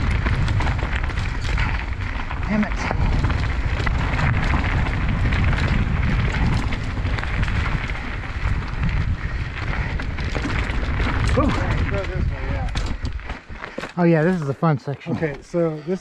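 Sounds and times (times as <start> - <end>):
wind buffeting microphone: 0.0 - 13.8
bike rattling over rocks: 0.0 - 14.6.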